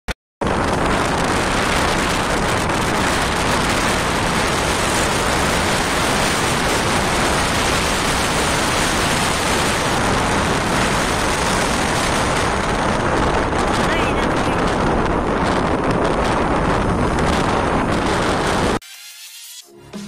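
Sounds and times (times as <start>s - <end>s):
road and wind noise of vehicle: 0.4s - 18.8s.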